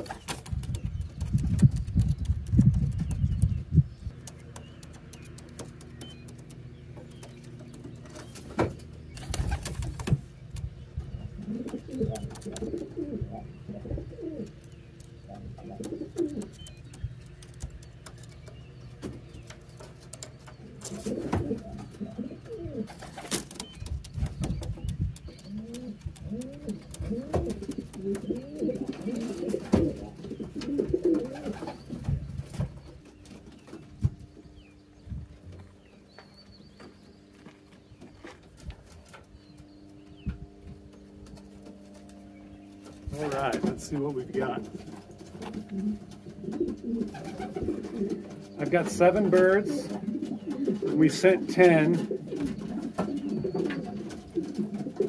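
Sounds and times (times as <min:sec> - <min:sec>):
pigeons cooing: 0:00.0 - 0:35.0, 0:35.6 - 0:55.0.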